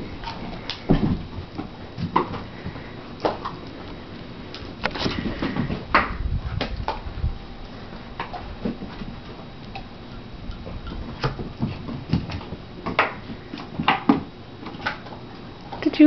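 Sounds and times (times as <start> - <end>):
low rumbling noise: 0.0 - 13.7.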